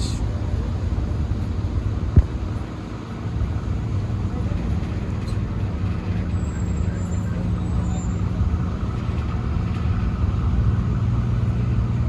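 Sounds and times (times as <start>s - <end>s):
ferry diesel engine rumble: 0.0s - 12.0s.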